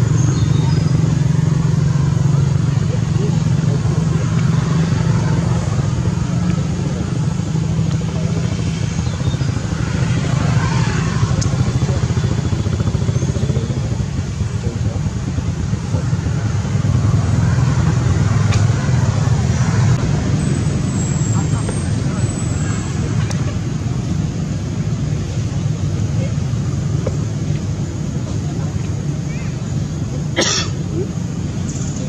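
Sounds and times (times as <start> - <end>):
low engine hum: 0.0 - 32.0.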